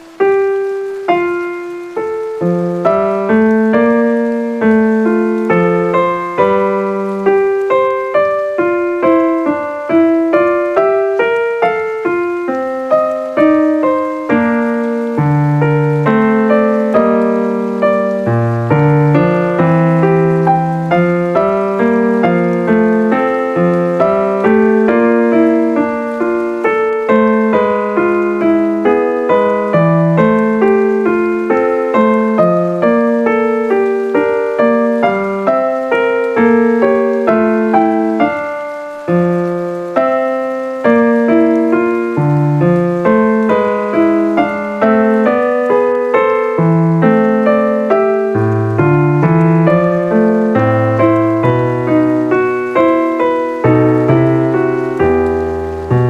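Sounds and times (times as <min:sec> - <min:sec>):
solo piano music: 0:00.0 - 0:56.0.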